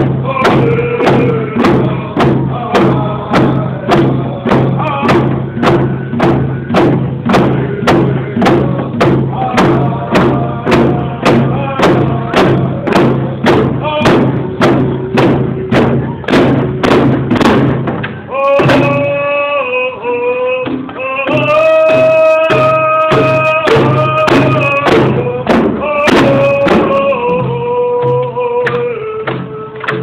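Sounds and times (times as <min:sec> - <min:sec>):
group singing in unison: 0:00.0 - 0:16.8, 0:18.3 - 0:30.0
frame drums beating: 0:00.0 - 0:19.5, 0:20.4 - 0:30.0.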